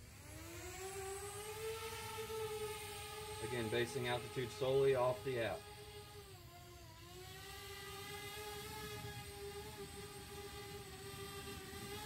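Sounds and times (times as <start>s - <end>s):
drone propellers whining hum: 0.0s - 12.0s.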